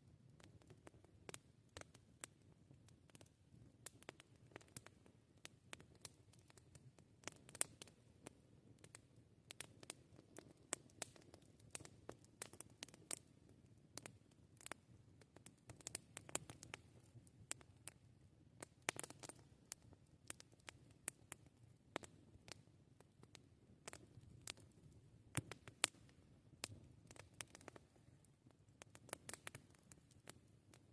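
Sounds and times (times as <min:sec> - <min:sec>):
campfire pops and snaps: 0:03.1 - 0:13.3, 0:14.0 - 0:18.0, 0:18.6 - 0:22.6, 0:23.2 - 0:28.1, 0:28.8 - 0:30.4.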